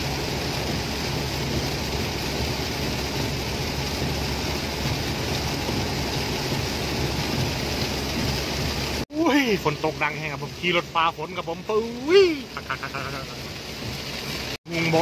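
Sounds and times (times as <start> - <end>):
heavy rain on car roof: 0.0 - 15.0
tyre noise on wet road: 0.0 - 15.0.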